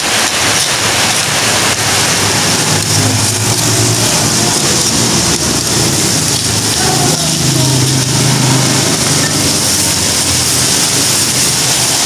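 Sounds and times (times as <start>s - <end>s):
spice paste sizzling in a wok: 1.2s - 12.0s.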